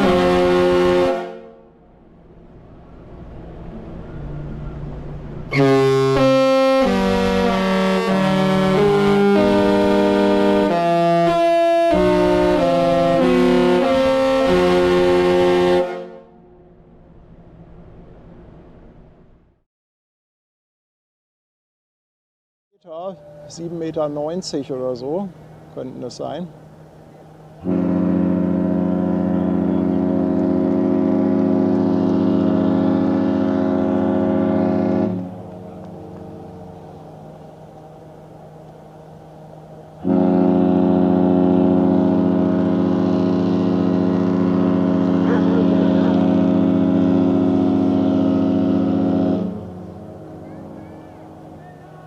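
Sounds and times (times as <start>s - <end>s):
ship's melody horn playing chords: 0.0s - 17.0s, 22.9s - 52.0s.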